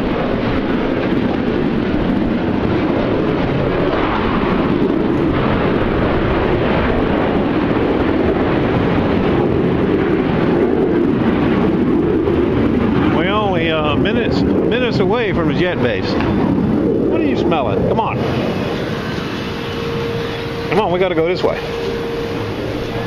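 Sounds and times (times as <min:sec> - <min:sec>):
jet aircraft roar: 0:00.0 - 0:23.0.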